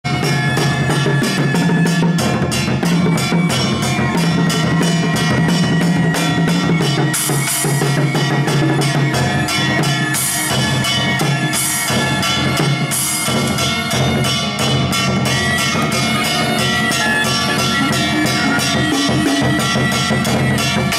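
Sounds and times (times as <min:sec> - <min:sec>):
drums played with sticks: 0:00.0 - 0:20.9
cymbal crashing: 0:00.1 - 0:20.9
held instrument notes: 0:00.1 - 0:20.9.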